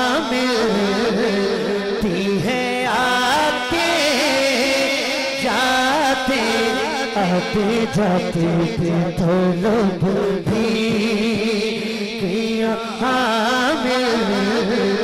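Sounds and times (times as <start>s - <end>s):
man singing devotional song: 0.0s - 15.0s.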